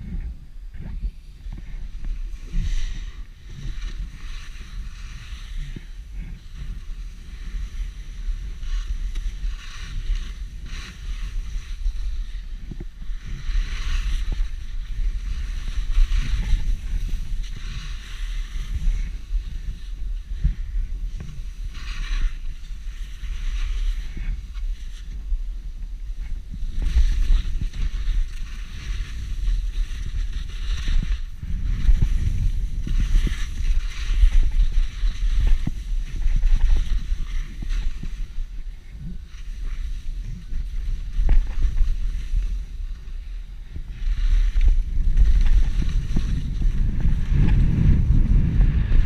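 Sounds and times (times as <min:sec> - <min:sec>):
wind noise on microphone: 0:00.0 - 0:49.0
skis hissing on packed snow: 0:01.4 - 0:47.8.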